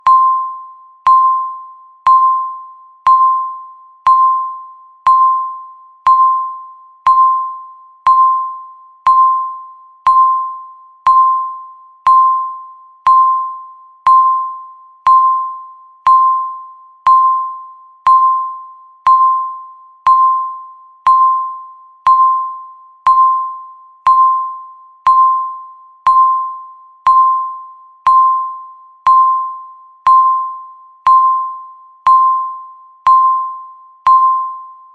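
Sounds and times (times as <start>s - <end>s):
electronic timer beeps: 0.0s - 34.9s.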